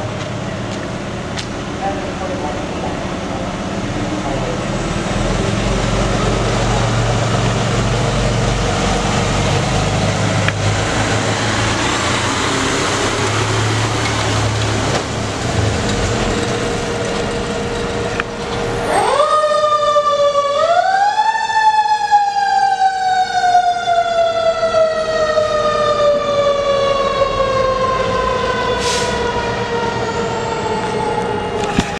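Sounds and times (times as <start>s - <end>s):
fire engine motor rumbling: 0.0s - 31.9s
fire engine siren: 4.3s - 31.9s.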